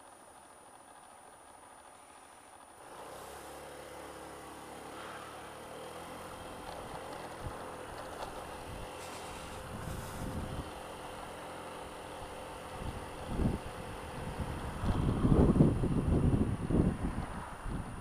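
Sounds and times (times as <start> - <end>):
scooter engine accelerating: 0.0 - 18.0
wind and road noise: 0.0 - 18.0.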